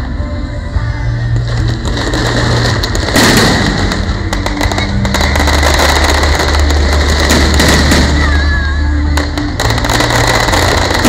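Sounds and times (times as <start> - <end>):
music with low notes: 0.0 - 11.0
fireworks bangs and crackling: 1.2 - 11.0.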